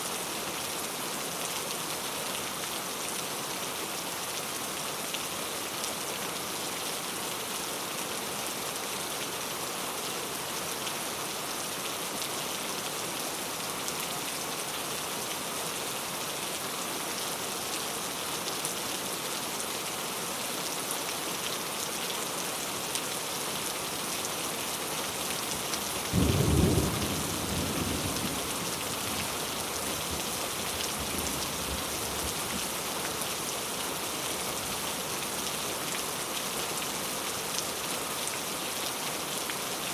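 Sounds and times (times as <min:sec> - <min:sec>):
heavy rain falling: 0:00.2 - 0:39.9.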